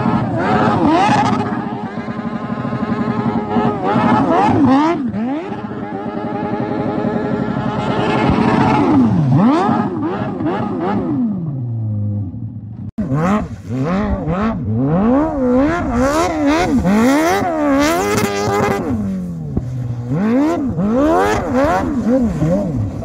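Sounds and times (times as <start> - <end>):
go-kart engine revving: 0.0 - 23.0.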